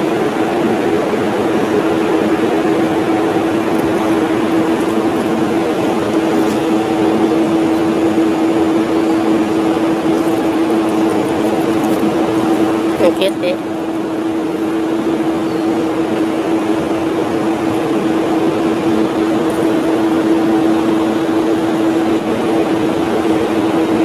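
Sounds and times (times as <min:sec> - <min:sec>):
mechanical drone with low hum: 0:00.0 - 0:24.0.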